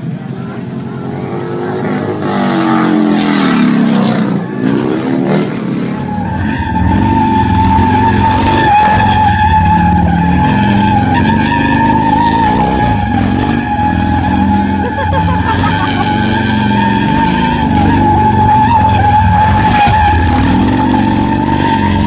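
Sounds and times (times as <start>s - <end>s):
motorcycle engine revving: 0.0s - 22.0s
high-pitched tire squeal: 0.8s - 22.0s.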